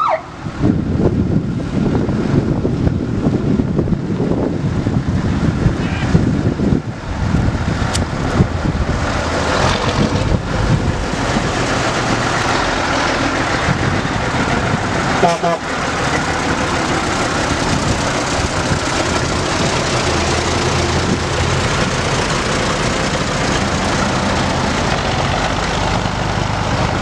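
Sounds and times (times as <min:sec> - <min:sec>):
fire engines running: 0:00.0 - 0:27.0
truck engine rumbling: 0:00.0 - 0:27.0.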